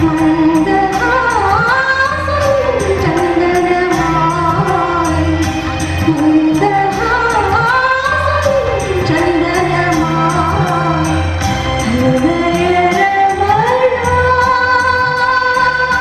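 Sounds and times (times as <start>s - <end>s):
percussion beat and bass: 0.0s - 16.0s.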